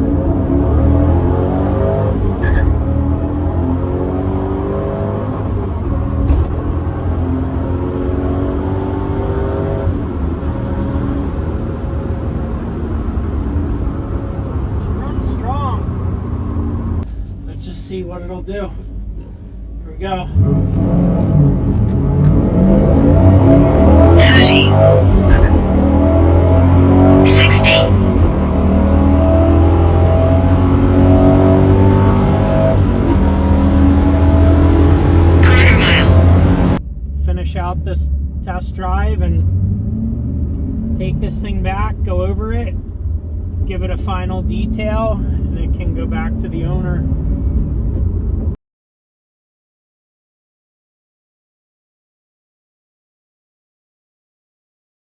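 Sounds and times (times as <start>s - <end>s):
car engine at full throttle: 0.0s - 17.5s, 18.5s - 48.6s.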